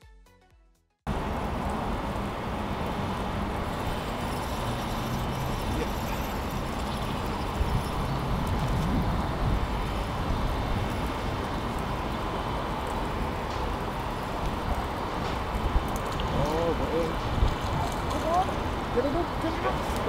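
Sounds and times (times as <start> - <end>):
engine hum: 1.1 - 20.0
road traffic rumble: 1.1 - 20.0.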